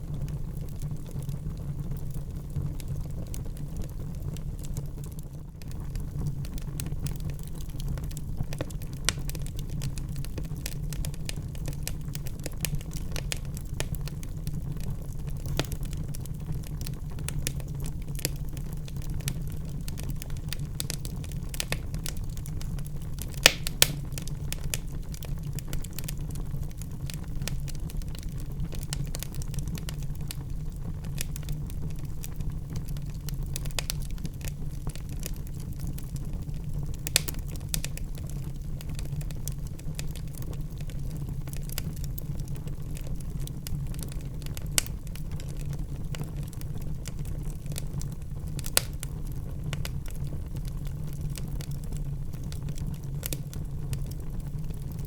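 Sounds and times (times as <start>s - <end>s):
fire crackling and popping: 0.0s - 55.0s
fire rumbling in fireplace: 0.0s - 55.0s.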